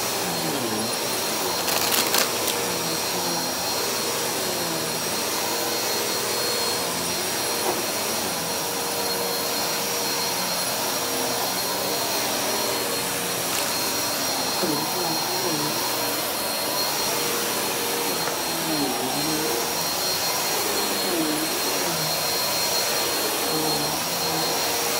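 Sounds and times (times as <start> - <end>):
vacuum cleaner running: 0.0 - 24.9.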